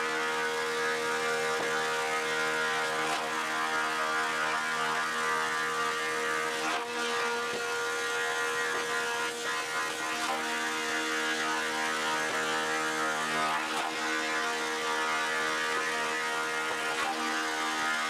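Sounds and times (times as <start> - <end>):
thickness planer running: 0.0 - 18.0.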